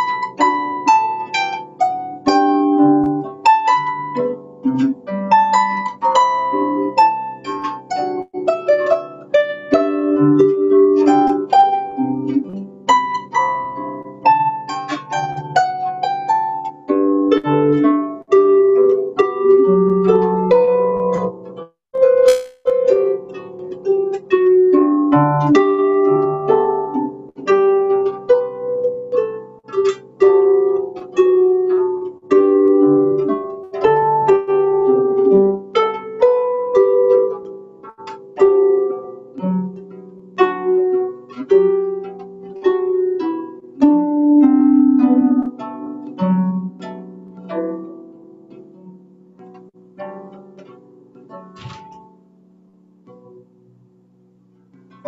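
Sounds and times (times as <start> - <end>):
harp playing slow melody: 0.0 - 55.0.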